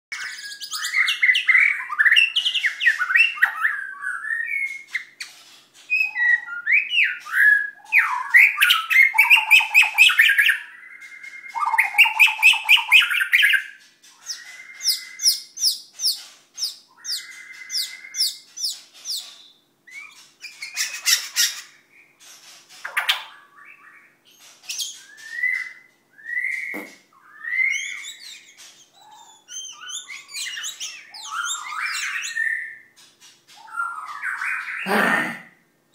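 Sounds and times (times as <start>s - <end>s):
bird singing varied song: 0.1s - 35.2s
harsh bird calls: 0.1s - 35.8s.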